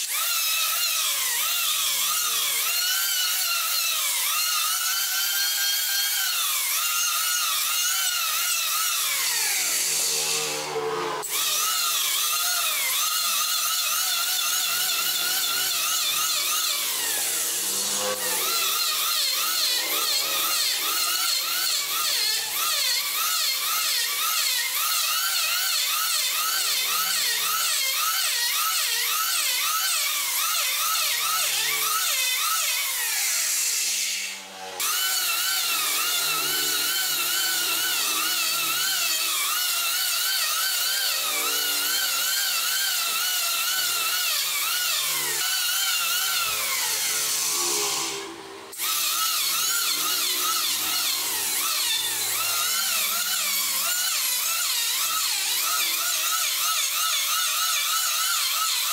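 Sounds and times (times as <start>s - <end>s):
electric hand planer whining: 0.0s - 58.9s.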